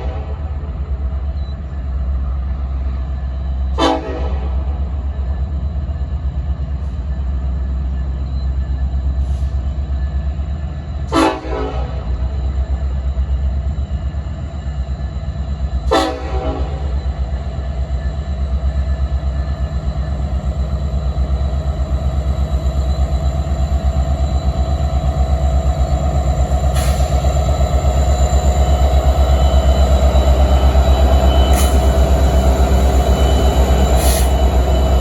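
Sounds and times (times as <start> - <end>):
diesel locomotive engine rumble: 0.0 - 35.0.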